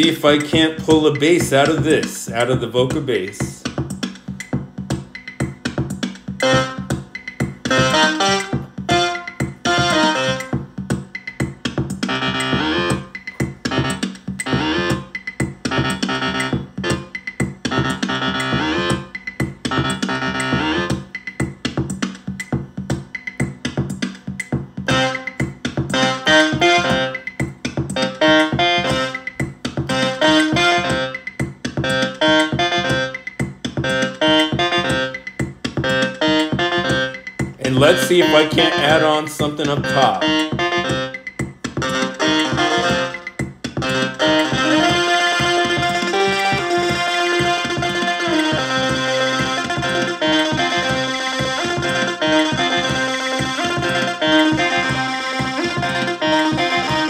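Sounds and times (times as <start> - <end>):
drum machine hits: 0.0 - 57.0
repeating synth bass line: 0.0 - 57.0.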